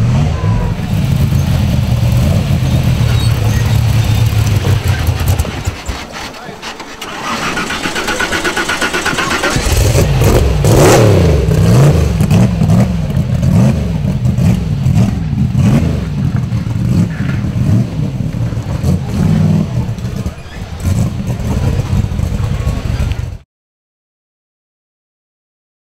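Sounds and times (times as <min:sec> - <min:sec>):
engine revving hard: 0:00.0 - 0:23.4.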